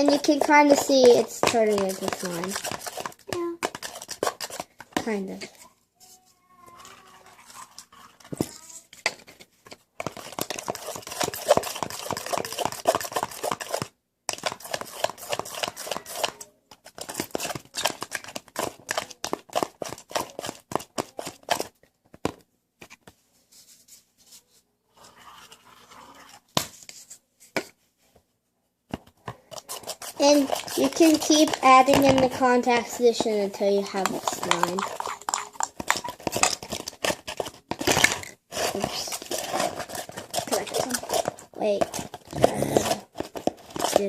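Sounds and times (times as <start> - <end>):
utensil stirring slime in a bowl: 0.0 - 21.8, 22.8 - 27.7, 29.0 - 44.0.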